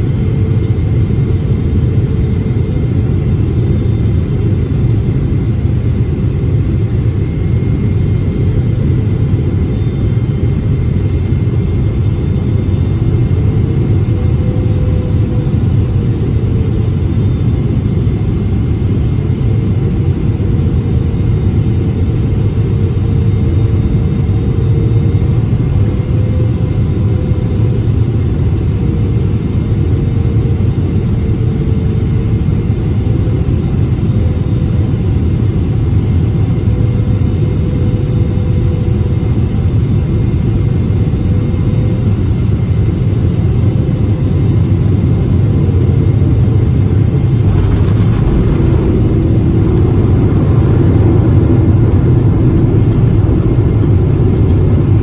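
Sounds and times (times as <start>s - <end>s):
rumble of wheels and engines: 0.0s - 55.0s.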